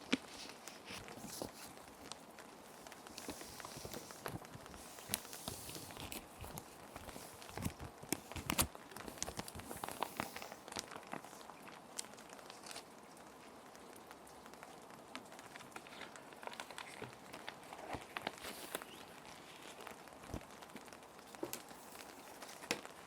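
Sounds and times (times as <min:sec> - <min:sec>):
plastic sheet protectors crinkling: 0:00.0 - 0:13.7, 0:14.4 - 0:23.0
gentle rain pattering: 0:00.0 - 0:23.0.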